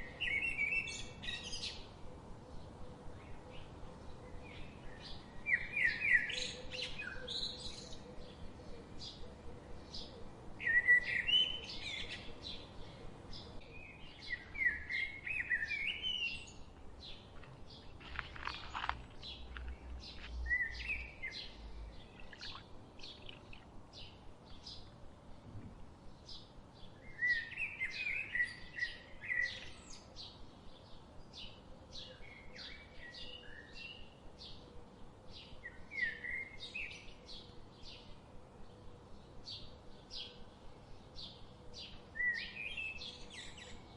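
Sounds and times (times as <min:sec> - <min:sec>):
bird warbling song: 0:00.0 - 0:43.9
small birds chirping: 0:00.0 - 0:43.9.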